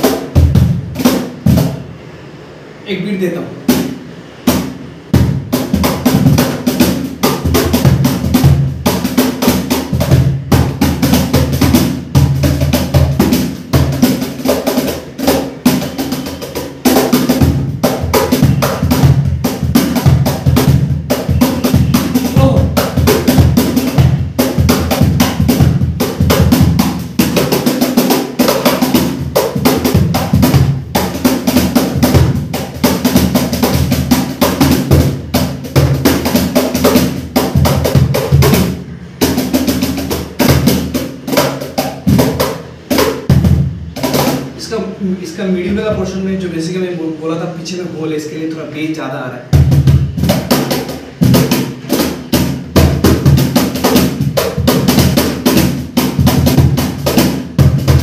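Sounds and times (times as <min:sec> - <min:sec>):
cajon slaps and bass strokes: 0:00.0 - 0:02.0, 0:03.6 - 0:44.8, 0:49.5 - 0:58.0.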